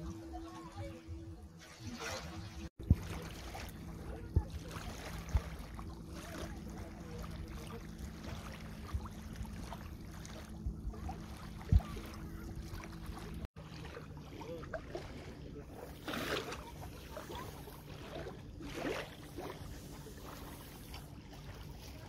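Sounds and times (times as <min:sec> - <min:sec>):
small waves lapping on sand: 0:00.0 - 0:22.0
steady low drone: 0:00.0 - 0:22.0.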